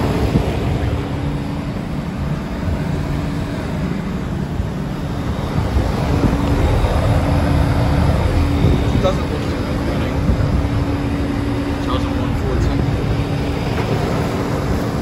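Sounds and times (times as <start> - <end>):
air conditioner fan rushing: 0.0 - 15.0
compressor hum: 0.0 - 15.0.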